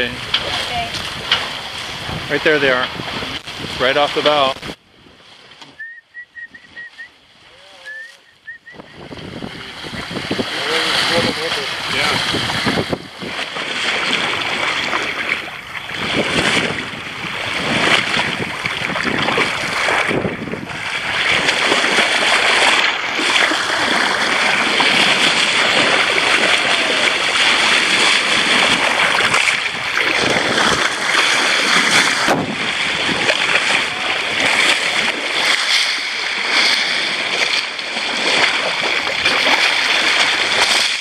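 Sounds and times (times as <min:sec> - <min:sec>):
wind buffeting microphone: 0:00.0 - 0:05.6, 0:08.4 - 0:41.0
water rushing along boat hull: 0:00.0 - 0:41.0.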